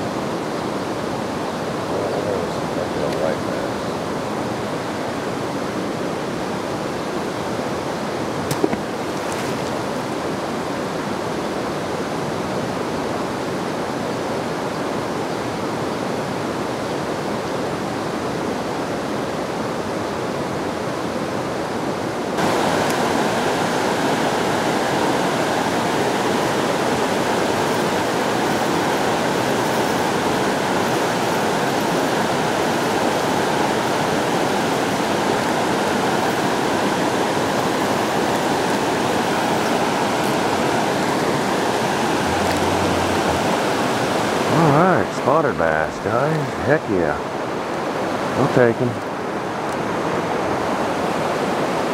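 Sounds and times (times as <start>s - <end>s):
river water rushing over rocks: 0.0s - 51.9s.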